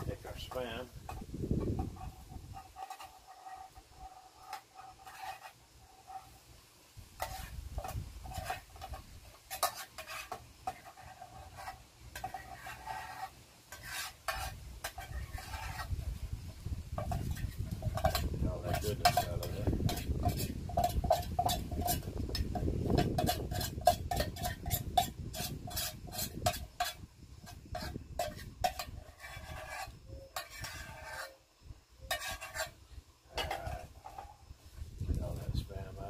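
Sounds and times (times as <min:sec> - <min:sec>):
metal utensil scraping steel cup: 0:00.2 - 0:06.4, 0:07.2 - 0:16.0, 0:17.0 - 0:31.4, 0:32.0 - 0:34.4.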